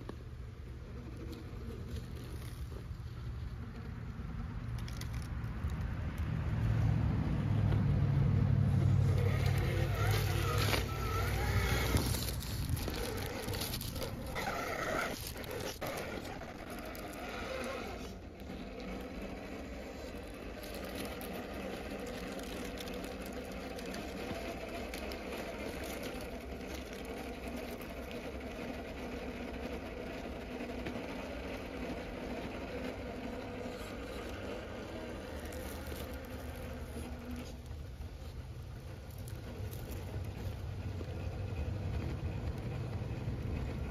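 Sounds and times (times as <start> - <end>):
tyres scraping on rock: 0.8 - 3.9, 8.8 - 42.2
motor and gear whine: 7.6 - 43.9.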